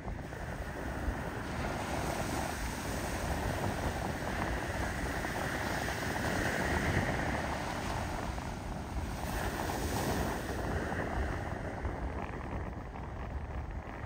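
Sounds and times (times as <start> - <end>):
ocean surf rushing: 0.0 - 14.0
wind on microphone: 0.0 - 14.0.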